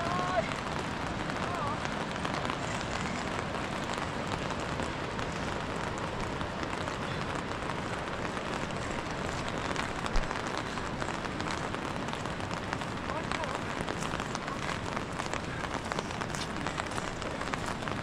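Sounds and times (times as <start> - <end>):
rain hiss: 0.0 - 18.0
rain patter: 0.0 - 18.0
wind: 0.0 - 18.0.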